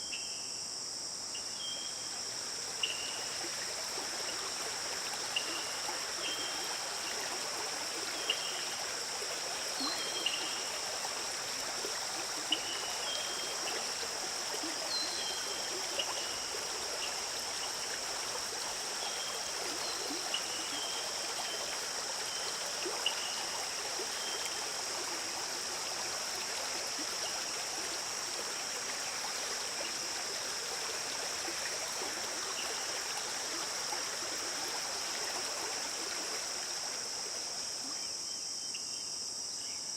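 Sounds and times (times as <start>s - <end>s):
stream trickling: 0.0s - 39.8s.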